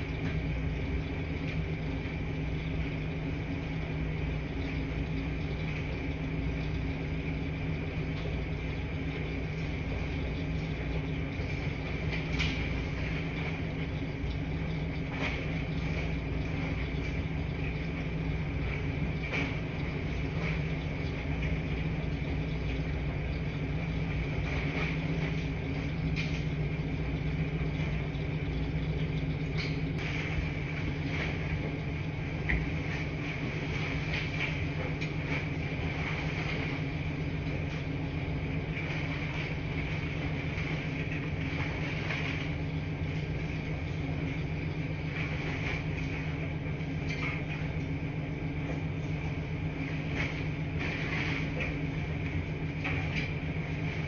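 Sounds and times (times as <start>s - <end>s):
washing machines humming: 0.0s - 54.0s.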